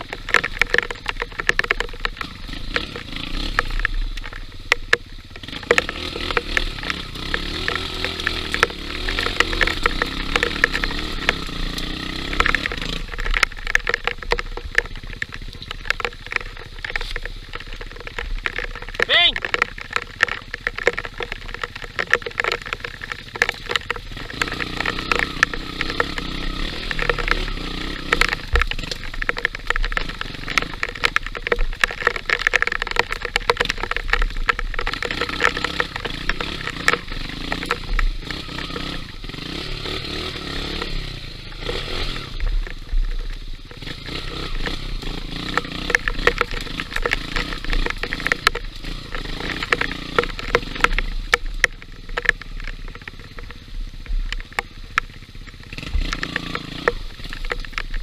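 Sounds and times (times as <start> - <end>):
knocks and rattles: 0.0 - 58.0
motorcycle engine revving: 0.0 - 58.0.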